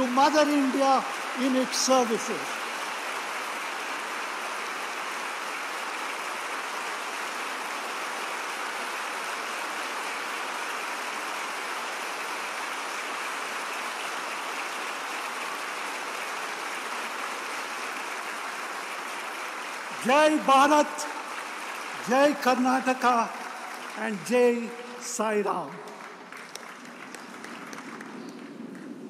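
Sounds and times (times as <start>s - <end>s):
large audience applauding: 0.0s - 29.0s.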